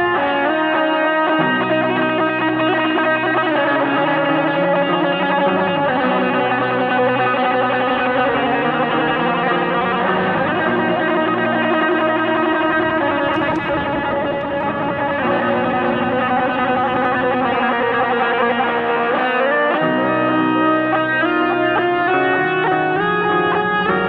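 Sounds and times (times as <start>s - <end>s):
electric guitar sustained notes: 0.0s - 24.0s.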